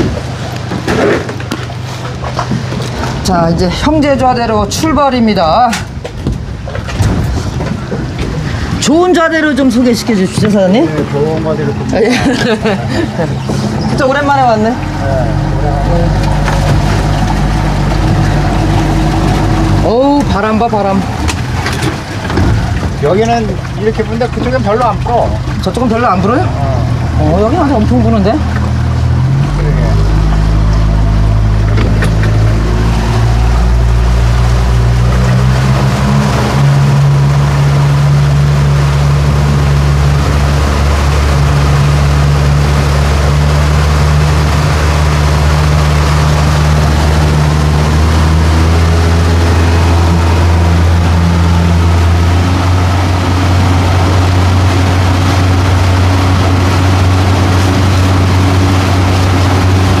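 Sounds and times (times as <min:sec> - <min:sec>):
boat engine droning: 0:00.0 - 1:00.0
wind and water rushing: 0:00.0 - 1:00.0.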